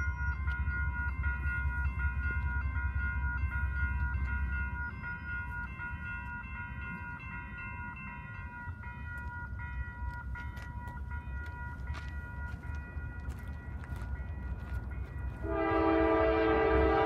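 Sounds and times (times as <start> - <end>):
crossing warning bell ringing: 0.0 - 17.0.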